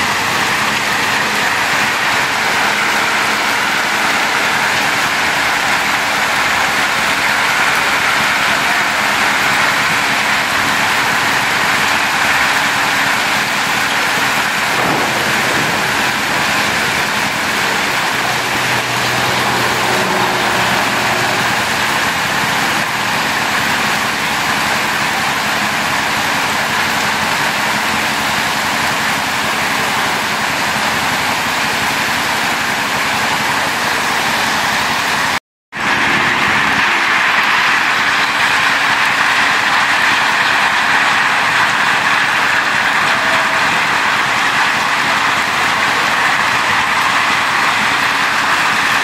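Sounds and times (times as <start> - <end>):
heavy rain and hail on road: 0.0 - 49.0.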